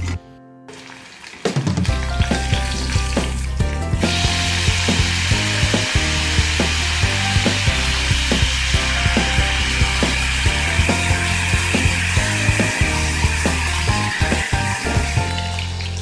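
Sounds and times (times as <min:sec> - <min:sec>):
loud sizzle of potatoes in oil: 0:00.8 - 0:16.0
onions frying in oil: 0:00.8 - 0:16.0.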